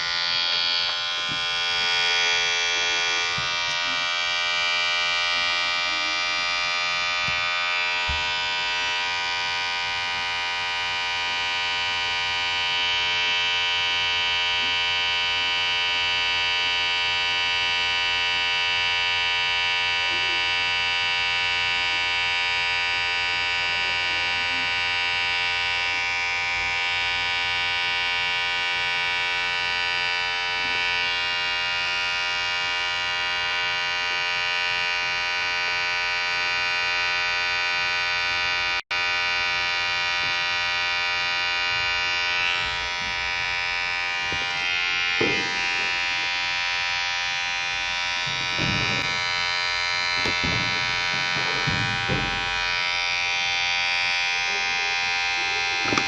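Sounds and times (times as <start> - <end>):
electric hair clipper buzzing: 0.0 - 56.0.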